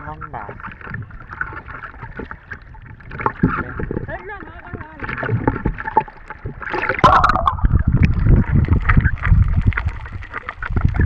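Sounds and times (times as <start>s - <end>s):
low underwater churning rumble: 0.0s - 11.0s
water sloshing and splashing: 0.0s - 11.0s.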